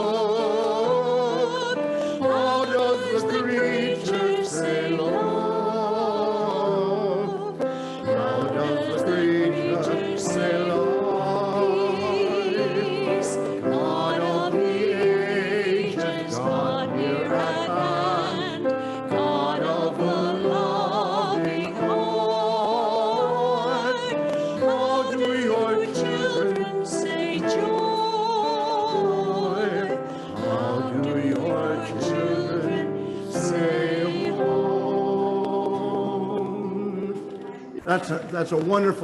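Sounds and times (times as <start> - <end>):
voices singing a slow hymn: 0.0 - 38.2.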